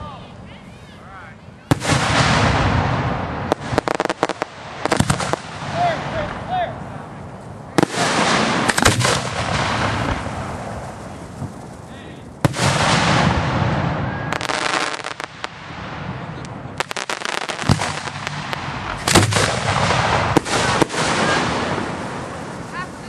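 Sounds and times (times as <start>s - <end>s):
steady hiss: 0.0s - 23.0s
firework crackling: 1.6s - 23.0s
firework bursts bang: 1.7s - 6.5s, 7.8s - 22.9s.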